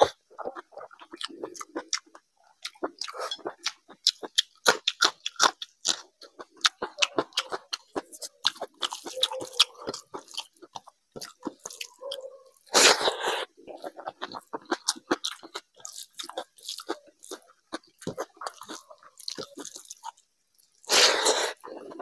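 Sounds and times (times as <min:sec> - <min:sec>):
wet chewing and mouth clicks: 0:00.0 - 0:22.0.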